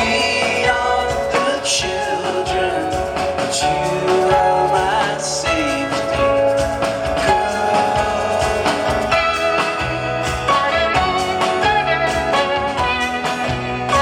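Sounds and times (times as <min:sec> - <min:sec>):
drums: 0:00.0 - 0:14.0
guitars ringing: 0:00.0 - 0:14.0.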